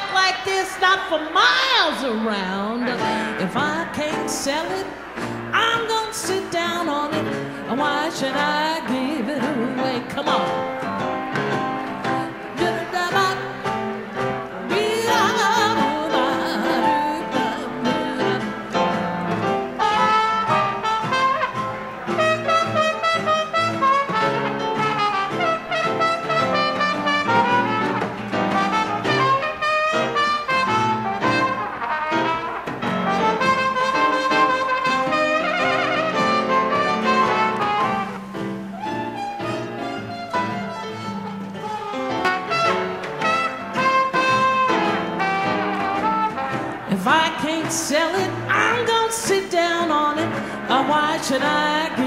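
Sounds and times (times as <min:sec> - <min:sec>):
jazz dance orchestra: 0:00.0 - 0:52.0
trombone: 0:07.8 - 0:52.0
trumpet: 0:07.8 - 0:52.0.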